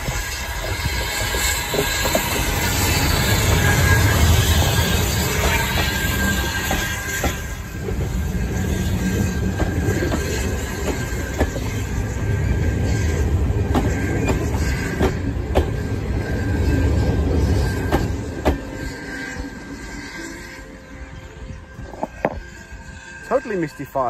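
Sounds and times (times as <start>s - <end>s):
train coaches rumbling: 0.0s - 24.0s
thin wheel squeal: 0.1s - 24.0s.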